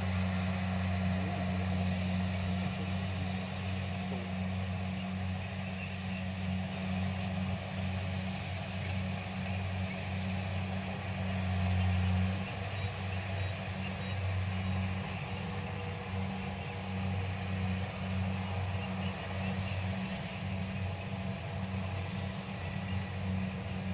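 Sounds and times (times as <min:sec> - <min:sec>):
combine harvester diesel drone: 0:00.0 - 0:23.9.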